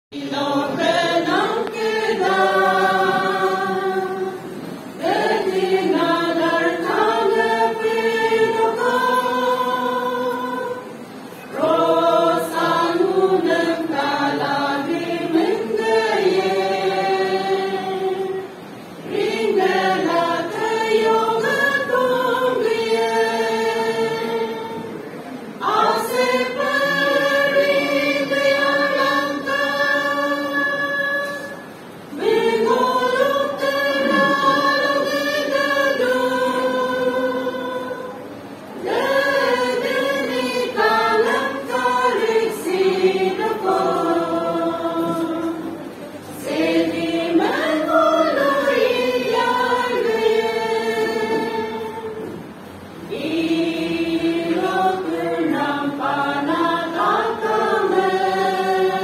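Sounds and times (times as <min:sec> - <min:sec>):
mixed choir singing: 0:00.1 - 0:59.0.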